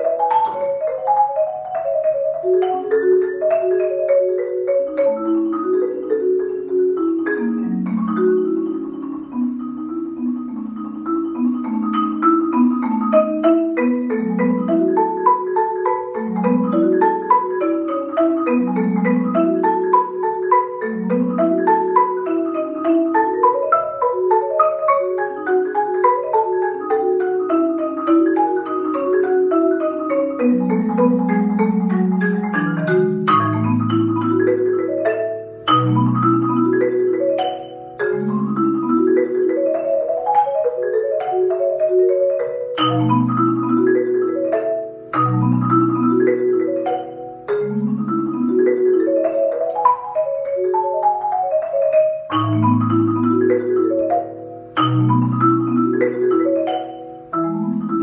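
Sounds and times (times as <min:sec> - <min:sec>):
marimba arpeggios: 0:00.0 - 0:58.0.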